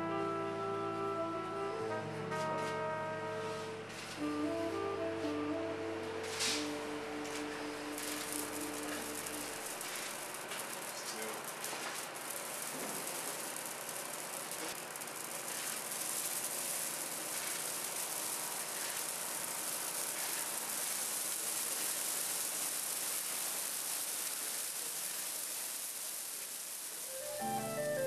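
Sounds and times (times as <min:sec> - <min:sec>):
burning tree crackling: 0:03.9 - 0:28.0
fire hiss: 0:03.9 - 0:28.0.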